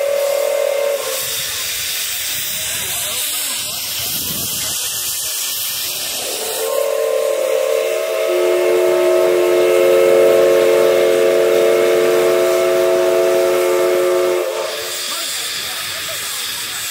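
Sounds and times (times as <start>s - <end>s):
steam locomotive whistle: 0.0s - 3.6s, 5.9s - 16.9s
hiss of escaping steam: 0.0s - 16.9s.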